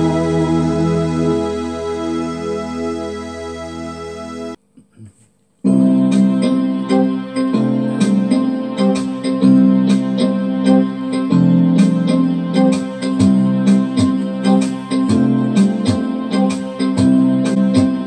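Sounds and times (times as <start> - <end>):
electric piano chords: 0.0 - 4.6, 5.7 - 18.0.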